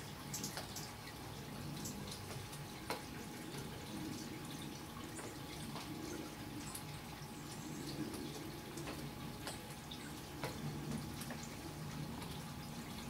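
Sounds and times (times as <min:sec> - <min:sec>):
water dripping from trees: 0:00.0 - 0:13.0.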